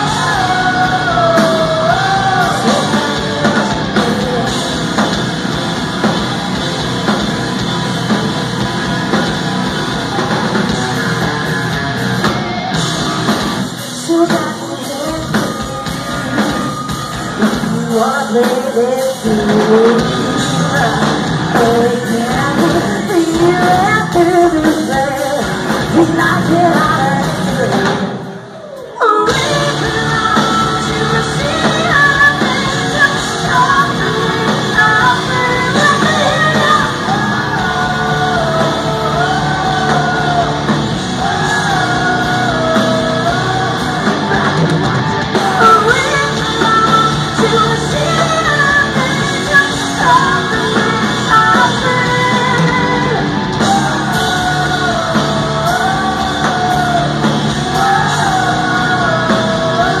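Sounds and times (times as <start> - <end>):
woman singing: 0.0 - 5.2, 13.8 - 60.0
drums: 0.0 - 60.0
electric guitars: 0.0 - 60.0.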